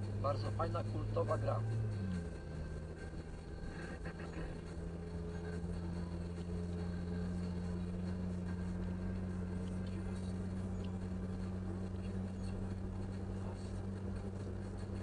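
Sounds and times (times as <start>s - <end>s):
car engine and road noise drone: 0.0s - 15.0s.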